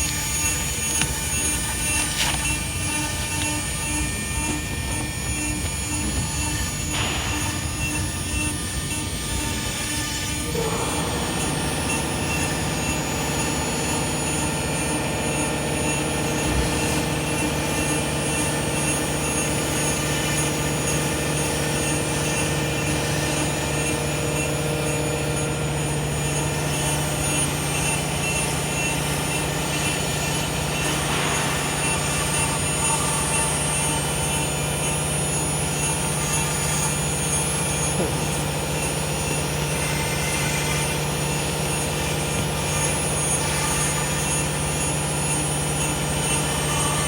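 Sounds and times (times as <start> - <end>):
cnc router hum and whine: 0.0 - 47.0.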